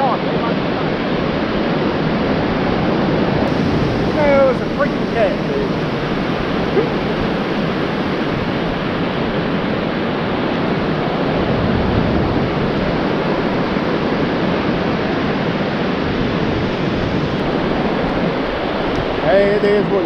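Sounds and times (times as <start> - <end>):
ocean surf breaking on a beach: 0.0 - 20.0.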